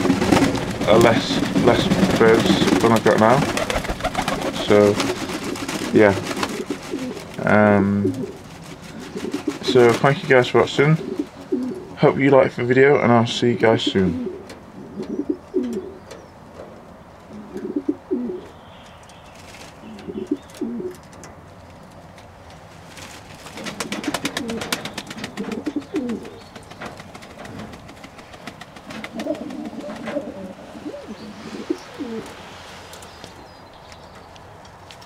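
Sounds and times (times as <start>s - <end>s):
doves cooing: 0.0s - 16.5s, 17.2s - 18.8s, 19.4s - 21.2s, 23.0s - 34.2s.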